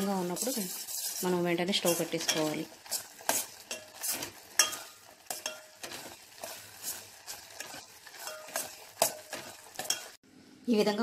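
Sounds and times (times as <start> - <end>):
steel spoon scraping a pan: 0.0 - 10.2.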